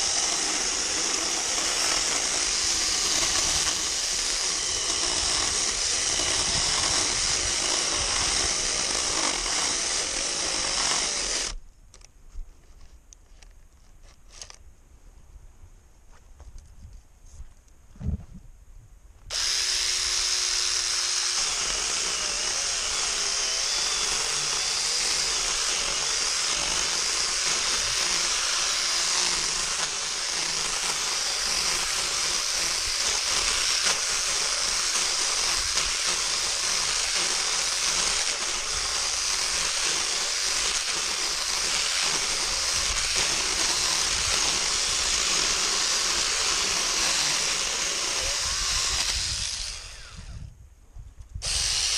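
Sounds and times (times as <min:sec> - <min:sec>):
mini chainsaw sawing wood: 0:00.0 - 0:11.6, 0:14.3 - 0:14.6, 0:19.3 - 0:50.5, 0:51.4 - 0:51.9.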